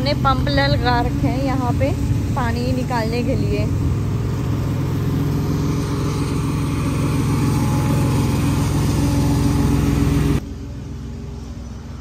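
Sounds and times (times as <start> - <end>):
engine-driven pump running: 0.0 - 12.0.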